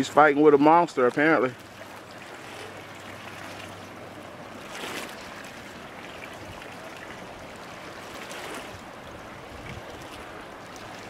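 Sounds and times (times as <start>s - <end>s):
small waves washing: 0.0s - 11.0s.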